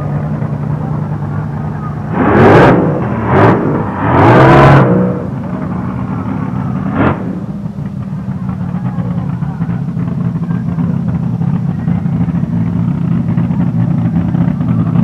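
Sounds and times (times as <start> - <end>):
drag car engine revving: 0.0 - 15.0.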